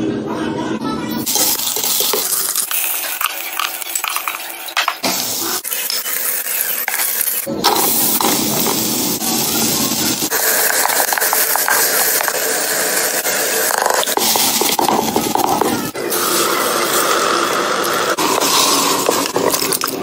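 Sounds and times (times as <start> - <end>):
meat sizzling in oil: 1.3 - 19.9.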